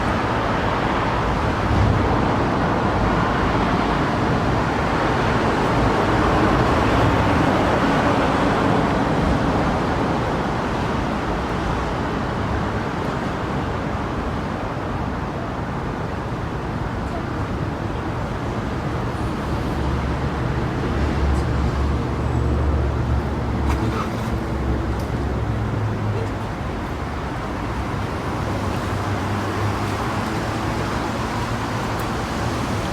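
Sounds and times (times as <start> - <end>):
road traffic: 0.0 - 32.9.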